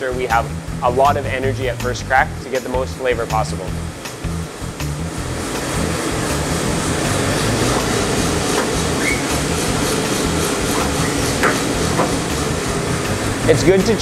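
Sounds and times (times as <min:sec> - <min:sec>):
coffee roaster rumbling: 0:00.0 - 0:14.0.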